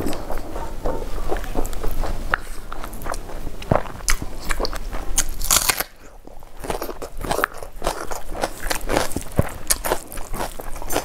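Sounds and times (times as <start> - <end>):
chewing crisp food: 0.0 - 11.0.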